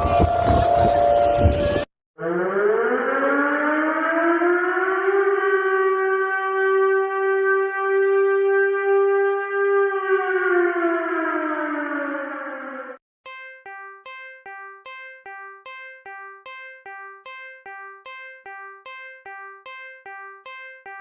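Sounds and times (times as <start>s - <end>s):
siren wailing: 0.0s - 21.0s.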